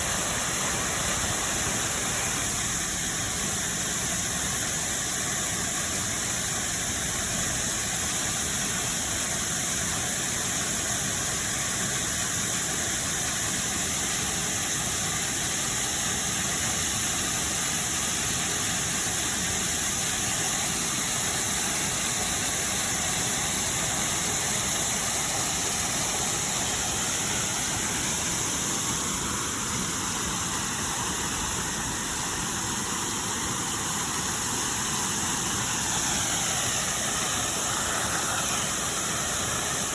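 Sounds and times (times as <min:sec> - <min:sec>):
waterfall pouring: 0:00.0 - 0:39.9.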